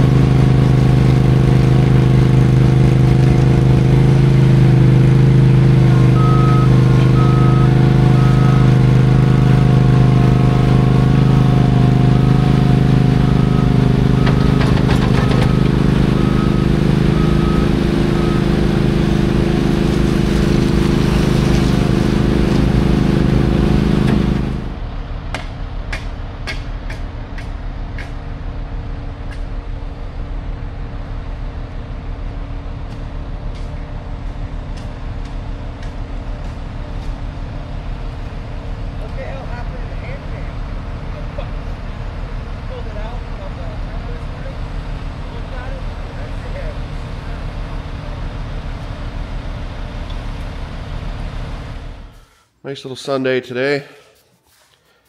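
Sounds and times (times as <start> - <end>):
diesel truck engine running: 0.0 - 26.4, 27.1 - 52.3.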